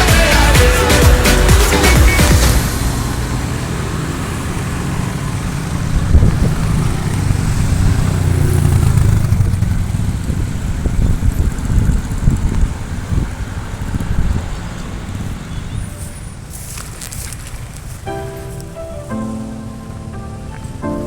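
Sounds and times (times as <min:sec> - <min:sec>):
road traffic: 0:00.0 - 0:21.0
vehicle engine humming: 0:00.0 - 0:21.0.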